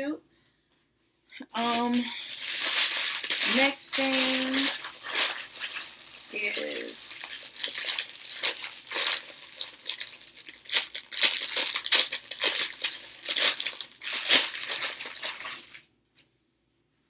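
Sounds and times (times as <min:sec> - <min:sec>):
plastic bag crinkling: 0:01.6 - 0:15.8.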